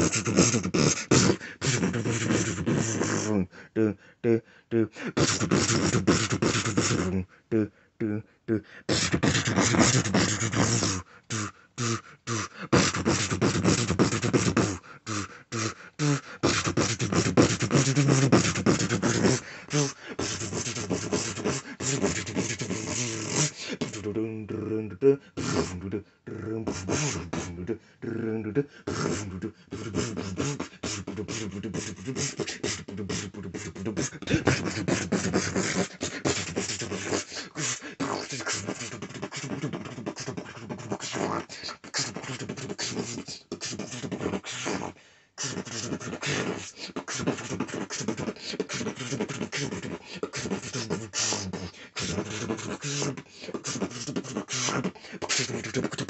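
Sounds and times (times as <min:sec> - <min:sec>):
person beatboxing: 0:00.0 - 0:56.0.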